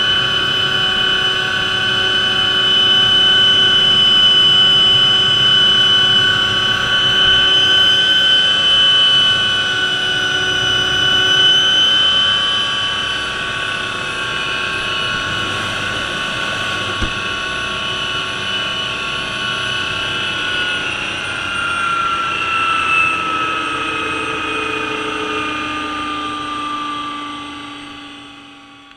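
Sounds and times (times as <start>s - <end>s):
helicopter turbine whine: 0.0s - 28.9s
rotor and engine noise: 0.0s - 28.9s.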